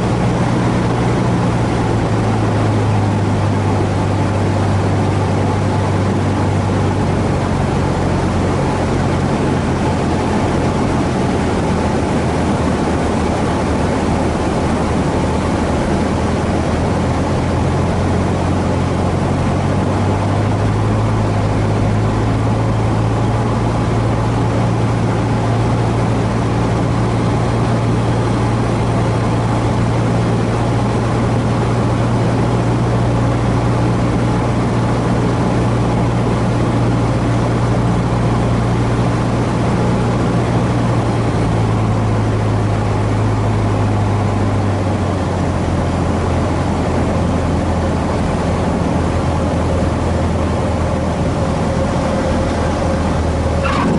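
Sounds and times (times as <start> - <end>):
small plane engine droning: 0.0 - 53.9.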